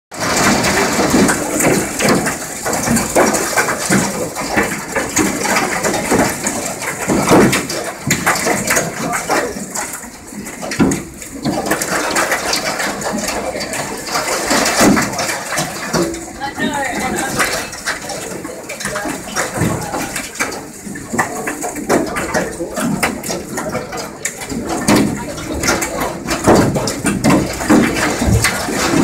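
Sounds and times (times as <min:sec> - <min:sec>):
hailstones striking windows: 0:00.2 - 0:29.0.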